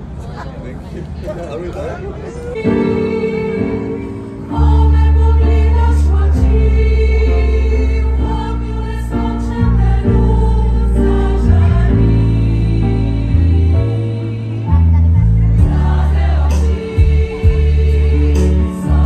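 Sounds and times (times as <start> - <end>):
women's choir singing: 2.3 - 19.0
deep sustained low notes: 3.6 - 19.0.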